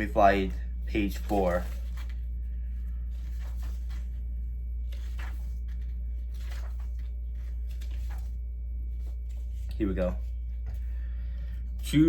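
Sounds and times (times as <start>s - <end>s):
paper pages turning: 0.0s - 11.0s
low electrical hum: 0.0s - 12.0s.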